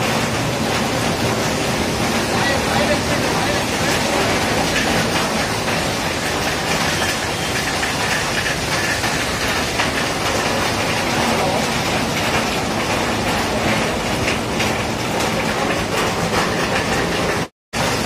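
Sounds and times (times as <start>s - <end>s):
heavy rain on wet street: 0.0s - 18.0s.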